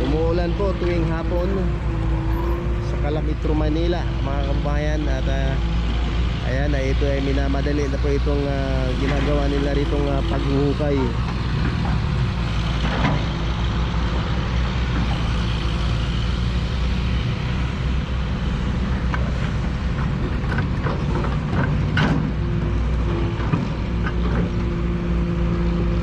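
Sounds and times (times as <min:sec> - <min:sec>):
backhoe engine running: 0:00.0 - 0:26.0.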